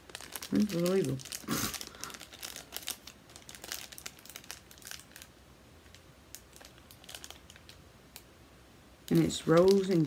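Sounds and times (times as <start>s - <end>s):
plastic wrapping crinkling: 0.0s - 8.3s, 9.0s - 10.0s.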